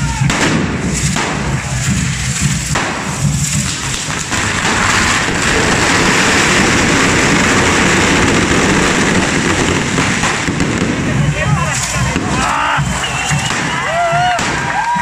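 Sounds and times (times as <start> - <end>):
fireworks spraying sparks hissing: 0.2 - 14.9.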